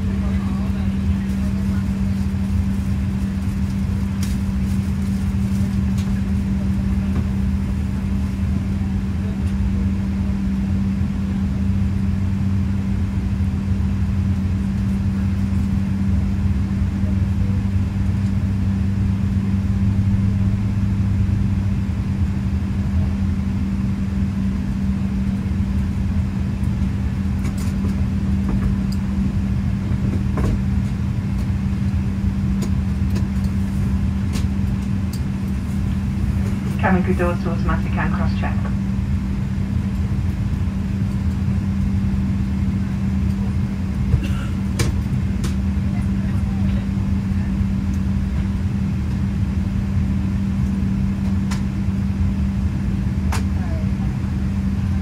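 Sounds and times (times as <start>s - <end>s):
airplane cabin drone: 0.0s - 55.0s
constant hum-like tone: 0.0s - 55.0s.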